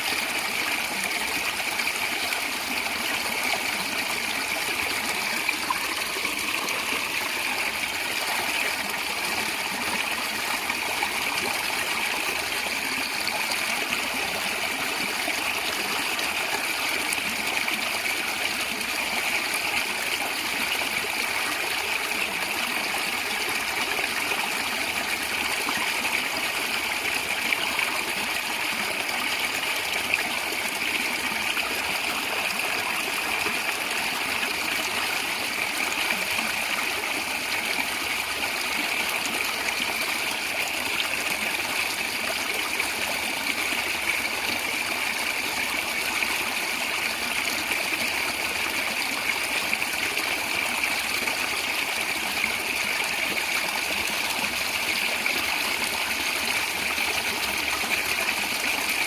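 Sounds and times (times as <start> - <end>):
stream gurgling over stones: 0.0 - 59.0.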